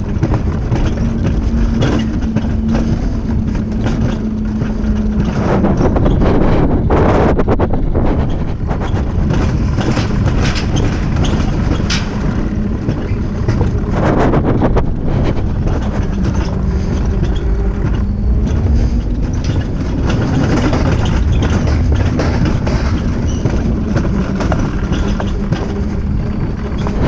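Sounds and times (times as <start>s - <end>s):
small rattles and clicks: 0.0s - 27.0s
vehicle rumble: 0.0s - 27.0s.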